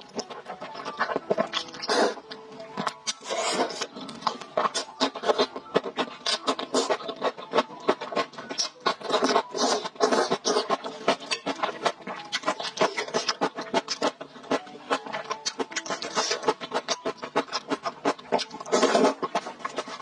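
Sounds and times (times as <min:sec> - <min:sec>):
wet chewing and smacking: 0:00.0 - 0:20.0.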